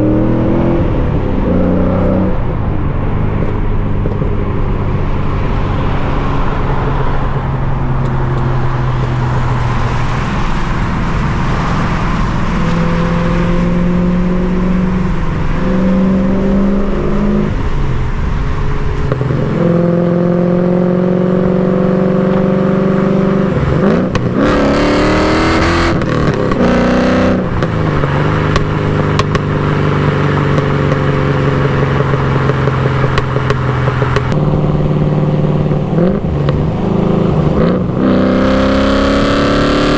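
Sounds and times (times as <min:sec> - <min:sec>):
car engine exhaust while driving: 0:00.0 - 0:39.9.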